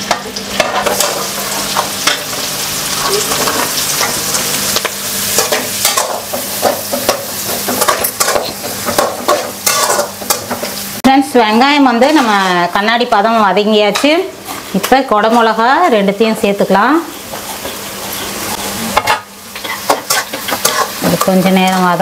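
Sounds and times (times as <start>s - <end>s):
onion sizzling in a pan: 0.0s - 22.0s.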